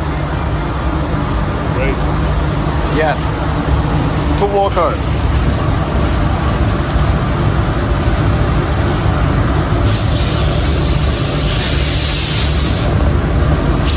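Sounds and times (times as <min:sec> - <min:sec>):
cutting machine rumbling: 0:00.0 - 0:13.9
loud high hiss: 0:00.0 - 0:13.9.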